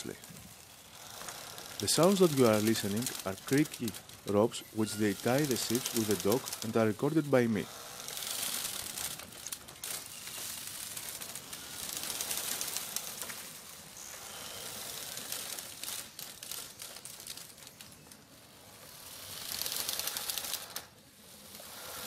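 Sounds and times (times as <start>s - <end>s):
hiss: 0.0s - 17.7s, 18.4s - 22.0s
mooring ropes creaking: 0.0s - 22.0s.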